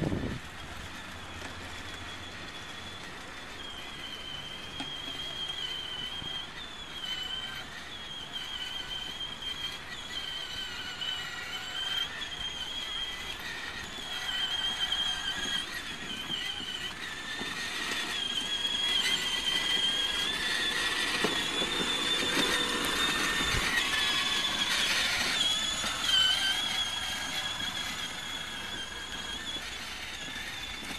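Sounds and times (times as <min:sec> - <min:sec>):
toy car electric motor whine: 0:00.0 - 0:30.9.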